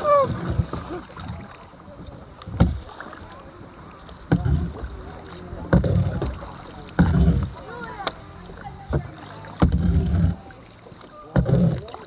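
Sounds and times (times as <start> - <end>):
paddle strokes splashing: 0.0 - 12.0
water: 0.0 - 12.0.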